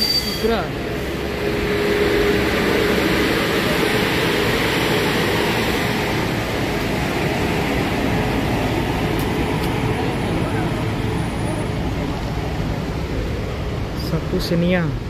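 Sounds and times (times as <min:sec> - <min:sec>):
slow traffic hum: 0:00.0 - 0:15.0.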